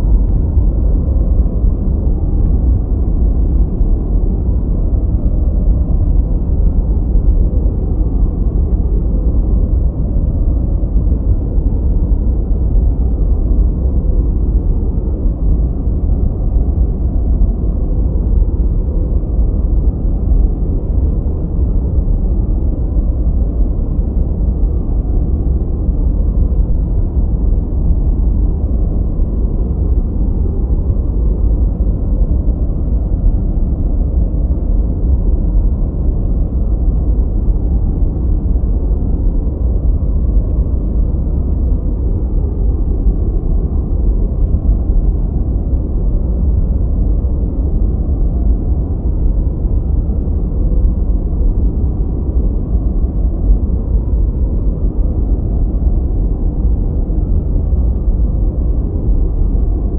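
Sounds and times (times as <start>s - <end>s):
deep muffled rumble: 0.0s - 59.9s.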